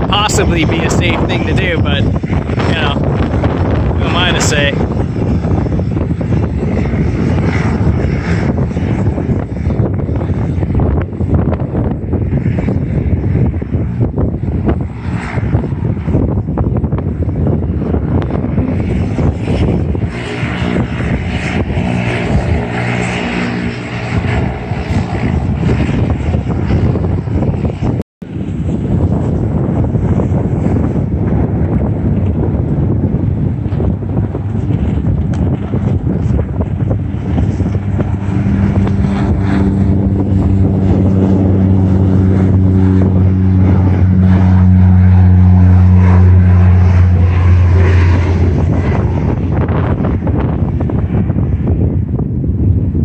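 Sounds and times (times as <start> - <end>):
floatplane engine and propeller: 0.0 - 53.0.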